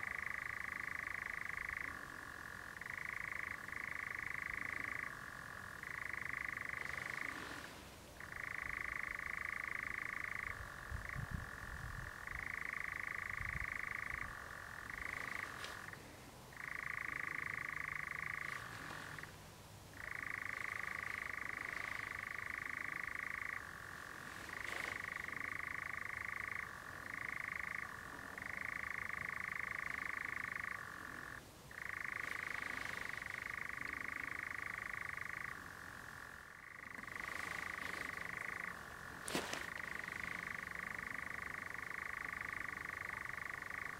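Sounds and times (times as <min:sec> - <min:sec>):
nightjar churring trill: 0:00.0 - 0:07.4, 0:08.2 - 0:19.3, 0:20.0 - 0:43.9.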